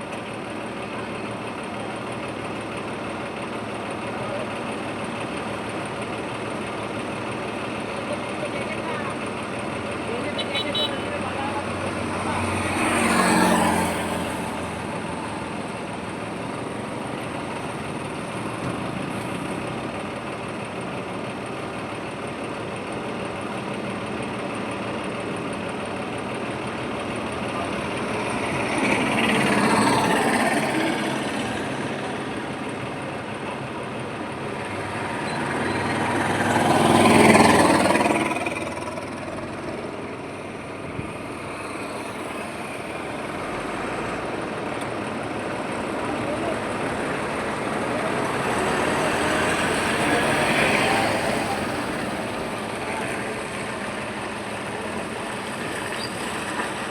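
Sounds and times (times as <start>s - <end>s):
highway traffic rumble: 0.0s - 56.9s
vehicles passing close by: 0.0s - 56.9s.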